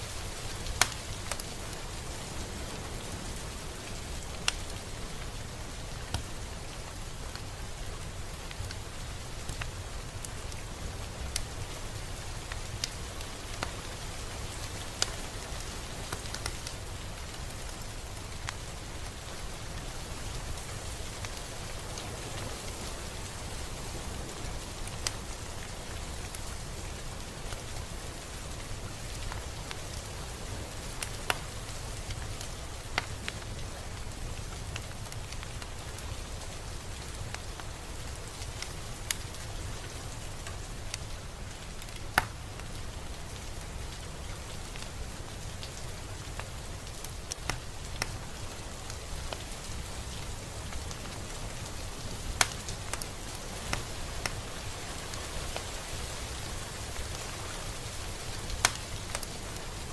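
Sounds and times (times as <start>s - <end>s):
raindrops ticking close by: 0.0s - 59.9s
steady rain falling: 0.0s - 59.9s.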